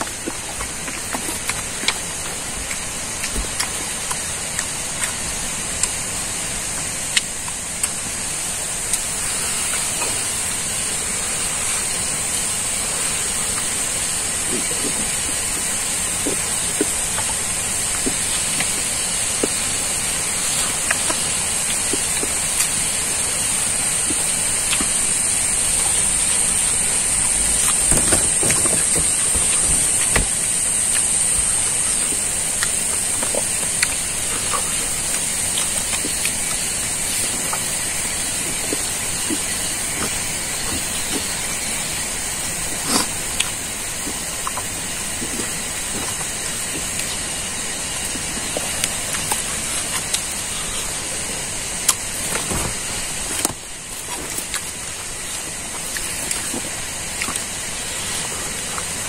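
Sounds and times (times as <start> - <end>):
soft chewing and lip-smacking: 0.0 - 59.0
steady high-pitched hiss: 0.0 - 59.0.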